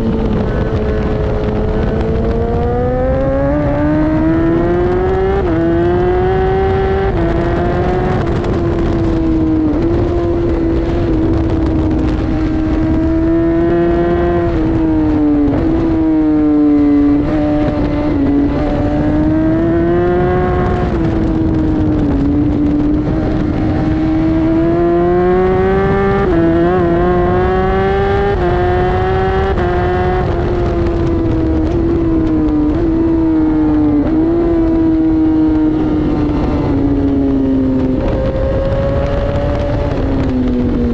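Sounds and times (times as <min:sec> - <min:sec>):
motorcycle engine accelerating hard: 0:00.0 - 0:40.9.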